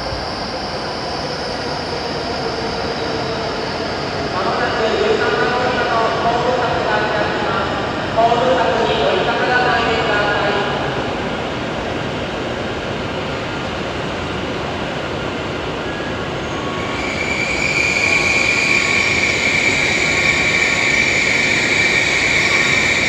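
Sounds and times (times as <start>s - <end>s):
train rushing noise: 0.0s - 23.0s.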